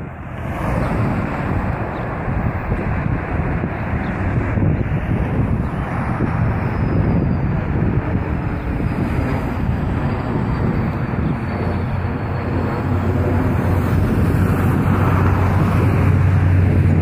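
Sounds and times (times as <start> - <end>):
jet engines roaring overhead: 0.0 - 17.0.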